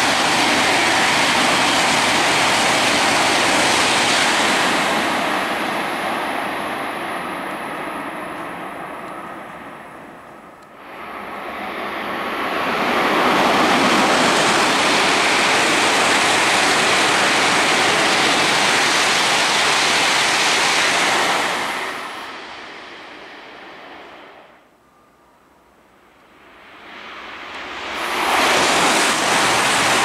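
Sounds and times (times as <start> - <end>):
high-speed train passing: 0.0 - 30.0.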